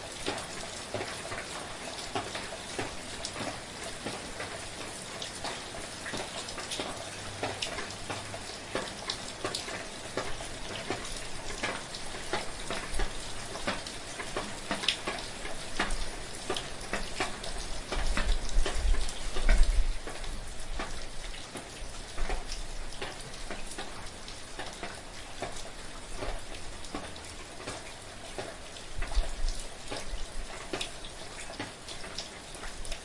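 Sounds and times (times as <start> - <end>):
raindrops pattering: 0.0 - 33.0.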